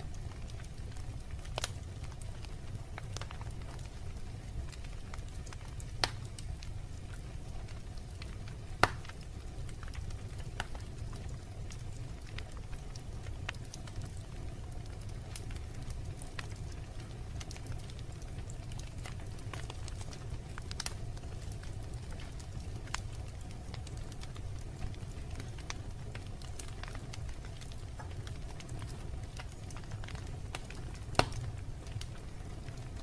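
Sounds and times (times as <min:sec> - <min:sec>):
fire crackling and popping: 0:00.0 - 0:33.0
fire flames rumbling: 0:00.0 - 0:33.0.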